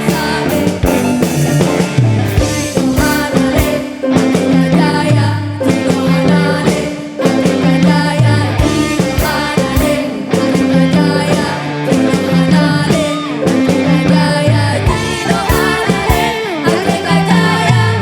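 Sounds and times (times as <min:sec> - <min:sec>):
drum strokes: 0:00.0 - 0:18.0
traditional ensemble music: 0:00.0 - 0:18.0.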